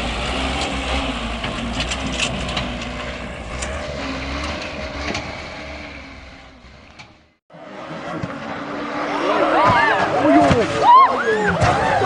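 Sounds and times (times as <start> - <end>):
vehicle engine running: 0.0 - 10.8
outdoor noise: 0.0 - 12.0.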